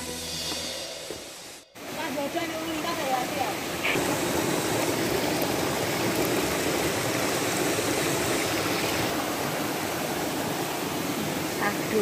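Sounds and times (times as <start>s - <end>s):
stream rushing over stones: 1.8s - 12.0s.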